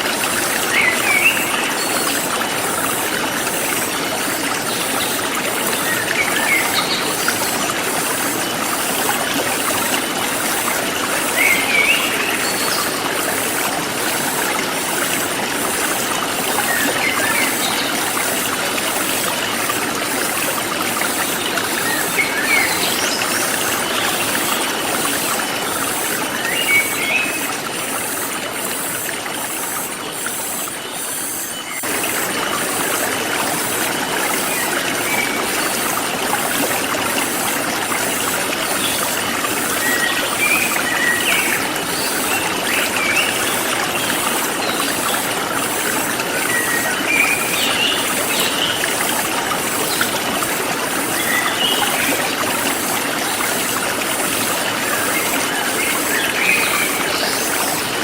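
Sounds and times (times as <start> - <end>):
forest stream flowing: 0.0 - 58.0
insects pulsing: 0.0 - 58.0.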